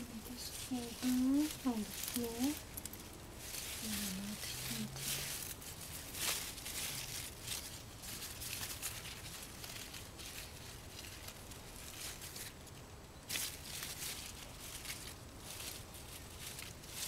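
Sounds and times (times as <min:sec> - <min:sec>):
bush leaves rustling: 0:00.0 - 0:17.0.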